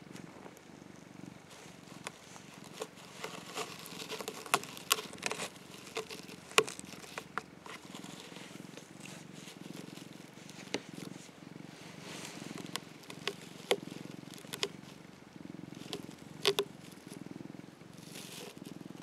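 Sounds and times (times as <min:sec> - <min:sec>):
cat purring: 0:00.0 - 0:19.0
claws scratching sisal: 0:01.5 - 0:15.0, 0:15.7 - 0:17.2, 0:18.0 - 0:18.8.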